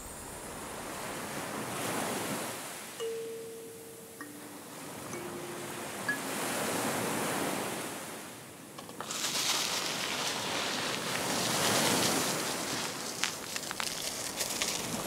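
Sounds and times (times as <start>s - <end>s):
ocean surf washing in: 0.0s - 13.3s.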